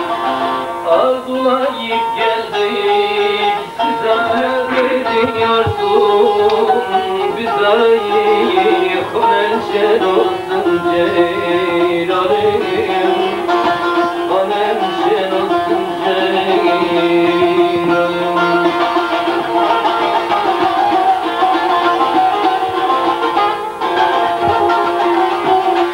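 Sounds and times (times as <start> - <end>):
plucked long-necked lute melody: 0.0 - 25.9.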